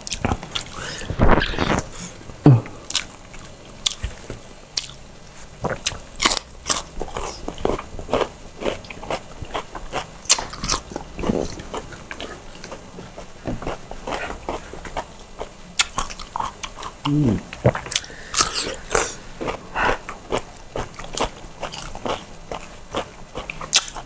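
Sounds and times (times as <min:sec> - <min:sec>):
chewing: 0:00.0 - 0:24.0
crisp food crunching: 0:02.9 - 0:24.0.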